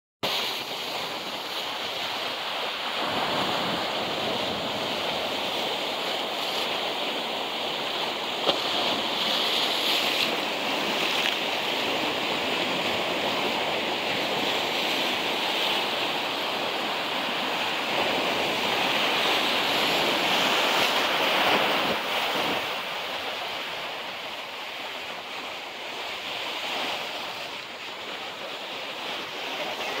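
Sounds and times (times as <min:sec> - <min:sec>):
surf washing over rocks: 0:00.2 - 0:30.0.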